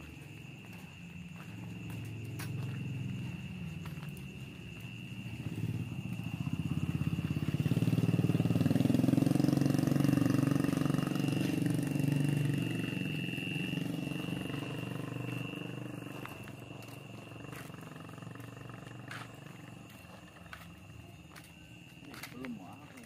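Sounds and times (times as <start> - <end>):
motorcycle engine passing by: 1.5 - 21.5.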